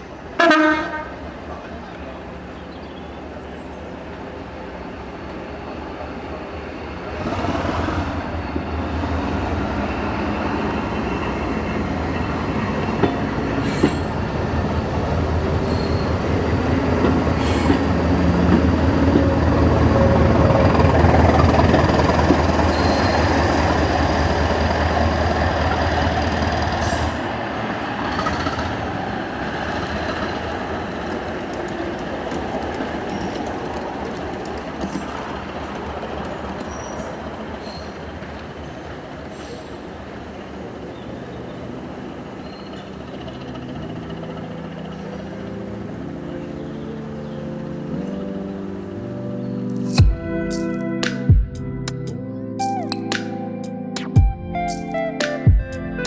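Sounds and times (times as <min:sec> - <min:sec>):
diesel train engine hum: 0:00.0 - 0:56.0.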